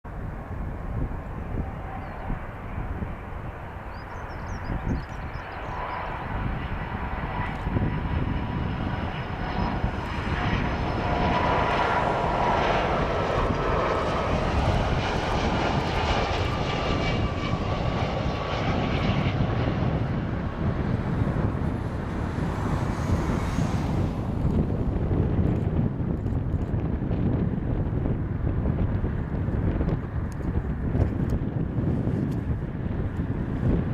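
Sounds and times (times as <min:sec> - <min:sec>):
jet engines roaring with whine: 0:00.1 - 0:33.9.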